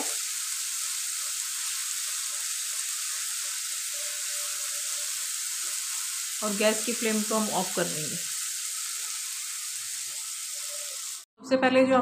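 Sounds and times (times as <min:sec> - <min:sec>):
cheese cubes sizzling in oil: 0:00.0 - 0:11.3.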